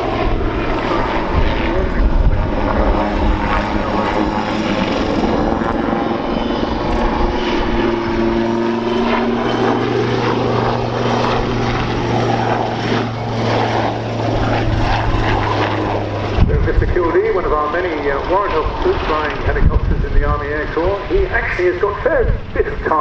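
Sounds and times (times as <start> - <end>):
helicopter rotor and engines: 0.0 - 23.0.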